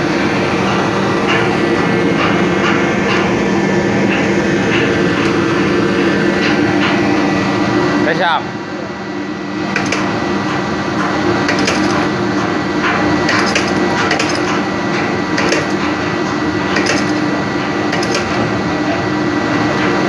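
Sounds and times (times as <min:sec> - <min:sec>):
machinery drone: 0:00.0 - 0:20.0.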